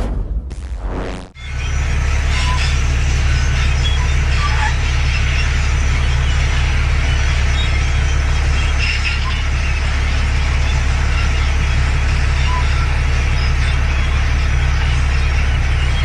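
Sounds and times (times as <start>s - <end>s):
bulldozer diesel engine droning: 1.4s - 16.0s.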